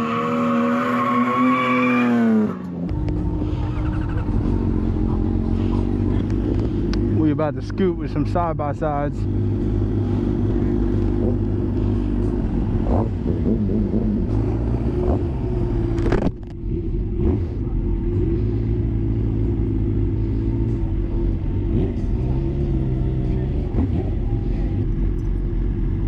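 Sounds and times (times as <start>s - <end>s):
vehicle engines idling: 2.7s - 26.0s.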